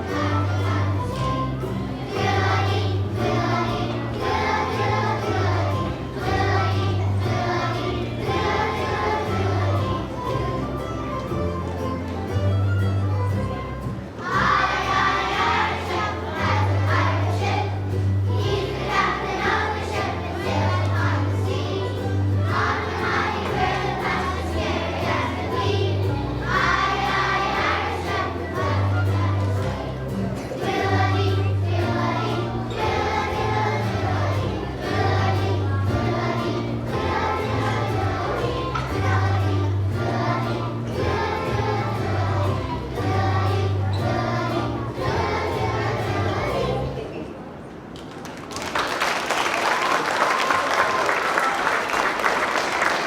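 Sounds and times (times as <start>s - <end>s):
instrumental accompaniment with bass: 0.0s - 46.9s
children's choir singing: 0.0s - 47.9s, 49.1s - 53.0s.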